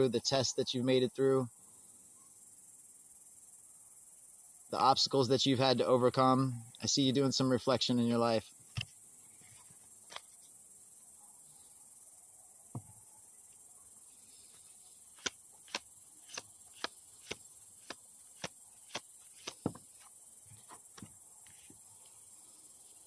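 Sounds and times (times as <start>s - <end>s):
insects chorus: 0.0s - 23.0s.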